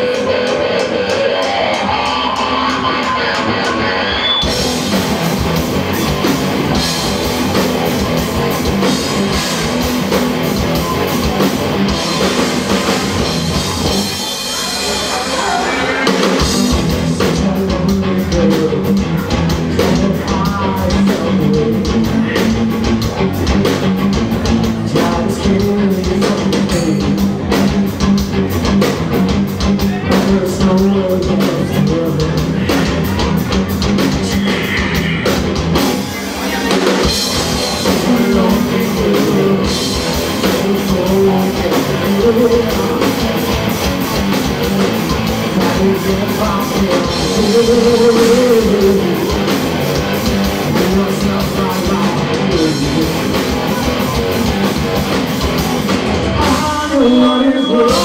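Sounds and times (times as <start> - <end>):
distorted electric guitar: 0.0 - 58.0
drum kit: 0.0 - 58.0.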